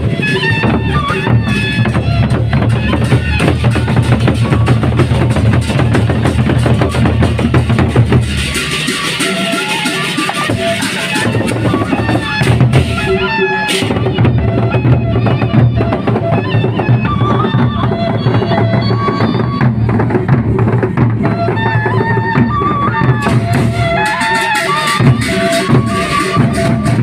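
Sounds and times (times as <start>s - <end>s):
high melody line: 0.0s - 20.0s, 21.2s - 27.0s
big drums beating: 0.0s - 27.0s.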